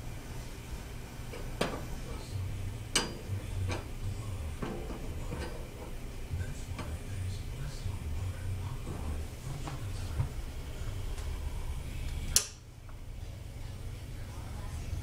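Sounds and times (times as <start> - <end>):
low handling rumble: 0.0 - 15.0.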